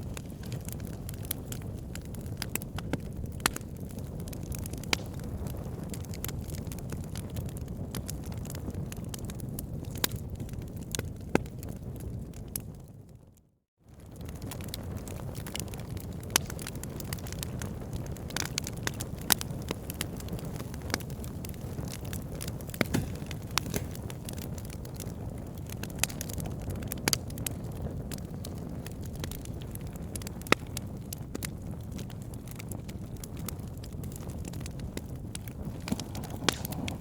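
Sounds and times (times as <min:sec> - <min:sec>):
wood fire crackling and popping: 0:00.0 - 0:13.2, 0:13.9 - 0:37.0.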